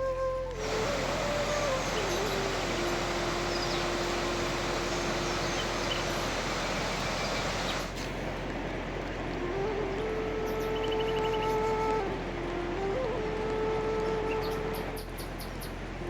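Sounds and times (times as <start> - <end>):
steady rushing noise: 0.4 - 16.0.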